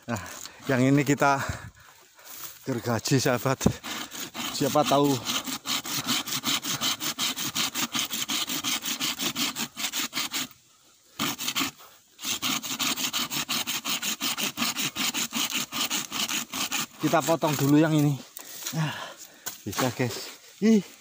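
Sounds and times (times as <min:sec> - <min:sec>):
hand saw cutting bamboo: 0:00.2 - 0:01.3, 0:02.8 - 0:18.8, 0:19.4 - 0:20.9.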